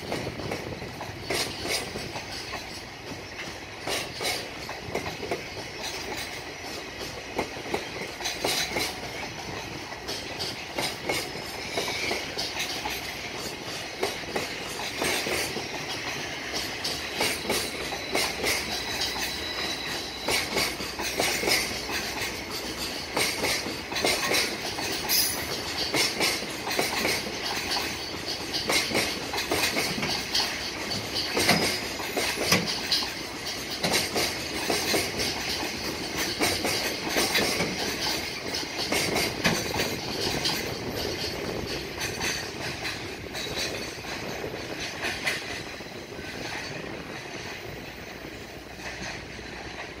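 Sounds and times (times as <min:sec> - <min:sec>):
train wheels clattering over rail joints: 0:00.0 - 0:50.0.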